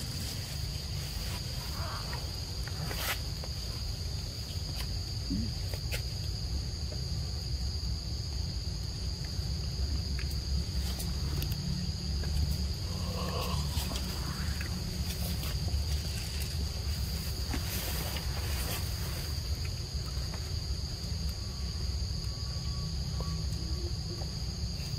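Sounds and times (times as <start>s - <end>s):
insects droning: 0.0s - 24.9s.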